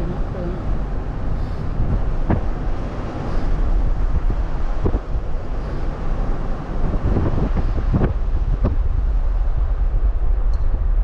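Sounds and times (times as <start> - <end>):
car engine and tyre rumble: 0.0 - 11.0
wind buffeting microphone: 0.0 - 11.0.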